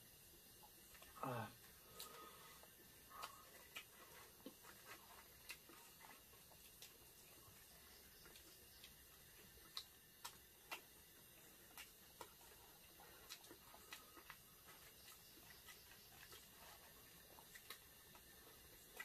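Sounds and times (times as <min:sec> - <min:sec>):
people chewing: 0:00.5 - 0:19.0.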